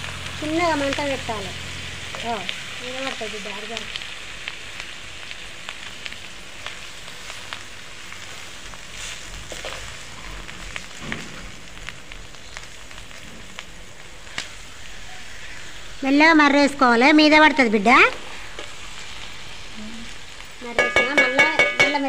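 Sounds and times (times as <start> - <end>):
food sizzling in oil with pops: 0.0 - 22.0.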